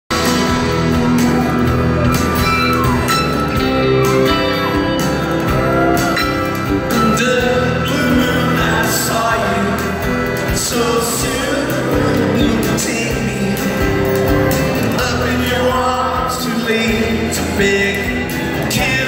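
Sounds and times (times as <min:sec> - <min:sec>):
electric guitar chords: 0:00.1 - 0:19.0
rock band playing live: 0:00.1 - 0:19.0.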